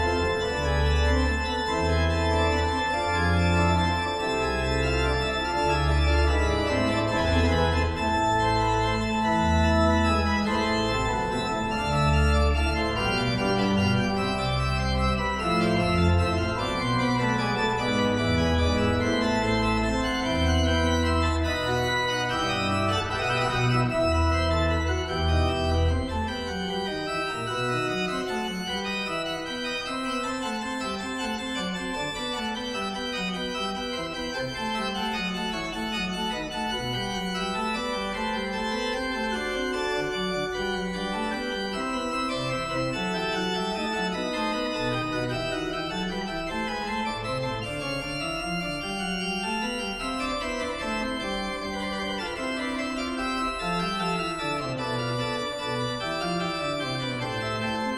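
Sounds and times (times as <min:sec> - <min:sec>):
organ playing slow chords: 0:00.0 - 0:57.9.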